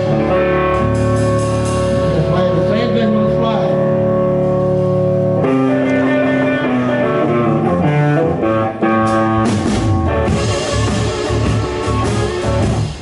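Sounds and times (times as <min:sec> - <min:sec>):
live band music led by guitar: 0:00.0 - 0:13.0.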